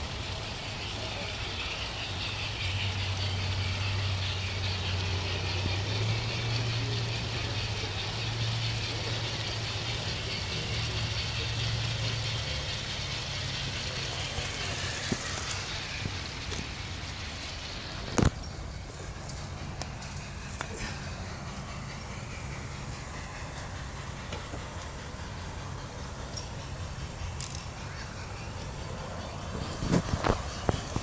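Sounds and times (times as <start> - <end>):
low mechanical hum: 0.0 - 31.0
outdoor hiss: 0.0 - 31.0.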